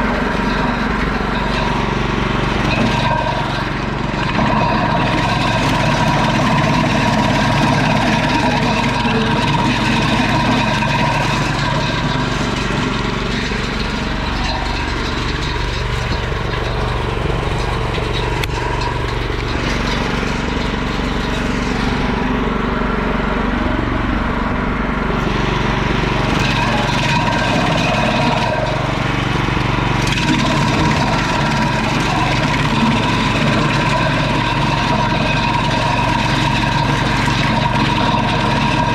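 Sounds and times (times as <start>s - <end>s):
wood chipper engine running: 0.0s - 38.9s.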